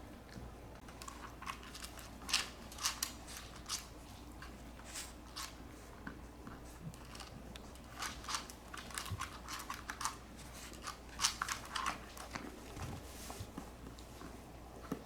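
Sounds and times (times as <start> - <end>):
animals scratching and clicking: 0.3 - 15.0.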